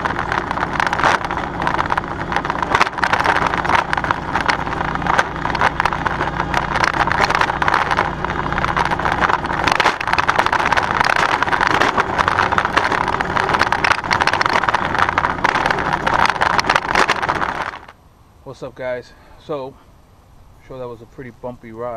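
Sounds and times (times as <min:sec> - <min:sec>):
aerator tines clattering: 0:00.0 - 0:18.6
lawn tractor engine drone: 0:00.0 - 0:21.9.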